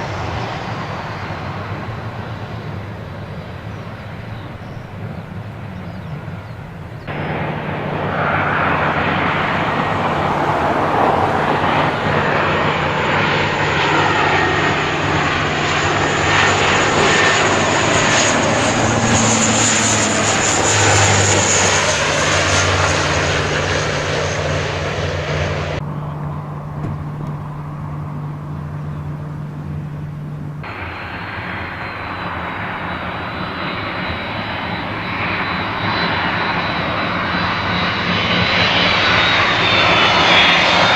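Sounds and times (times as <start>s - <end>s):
jet engines roaring with whine: 0.0s - 40.9s.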